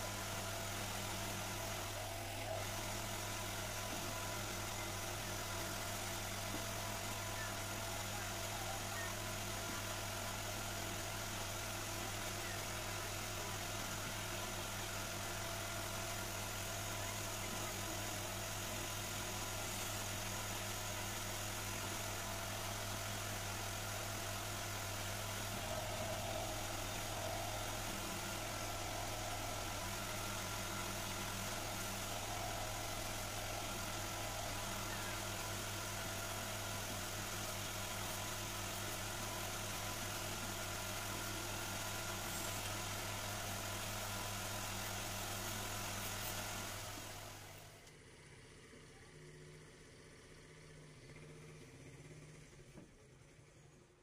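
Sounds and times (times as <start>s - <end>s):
lathe motor humming: 0.0s - 47.8s.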